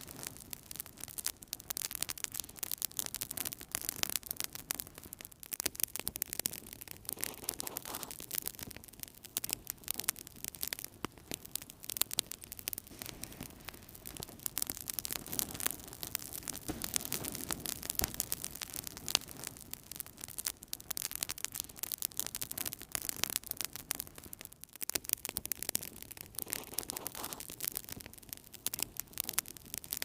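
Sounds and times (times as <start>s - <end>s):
fire crackling in a fireplace: 0.0s - 30.0s.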